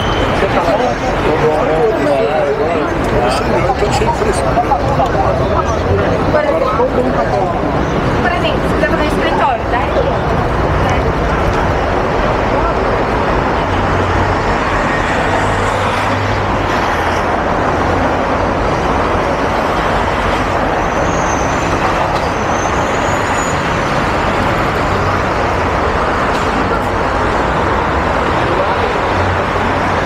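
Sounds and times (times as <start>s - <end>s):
city traffic: 0.0s - 30.0s.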